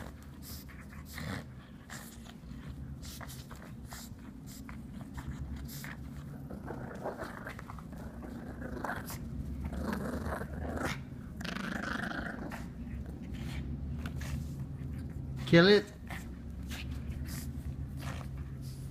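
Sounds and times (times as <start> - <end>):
dog growling: 0.0 - 18.8.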